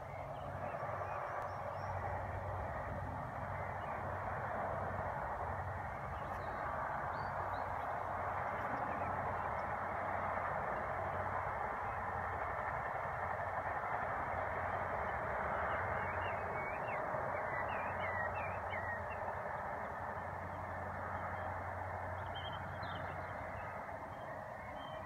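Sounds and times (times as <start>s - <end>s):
steady rushing background noise: 0.0s - 25.0s.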